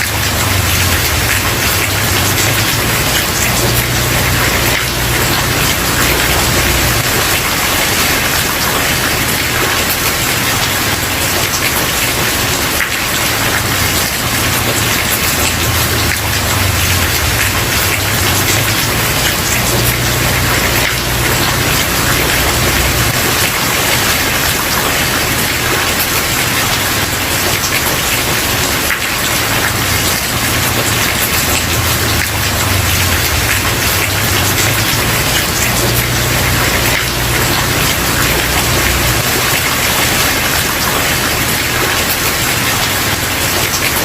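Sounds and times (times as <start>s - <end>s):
heavy rain on a wooden porch: 0.0s - 44.0s.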